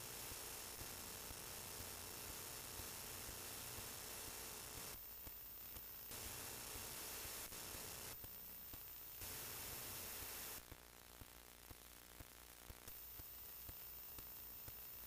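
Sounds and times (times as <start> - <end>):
recording hiss: 0.0 - 15.0.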